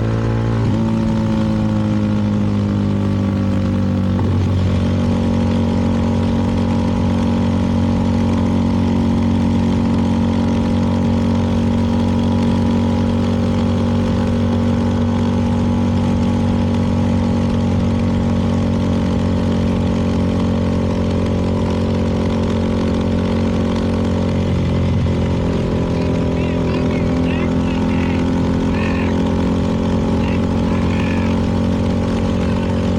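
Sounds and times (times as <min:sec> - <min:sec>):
motorcycle engine running steadily: 0:00.0 - 0:32.9.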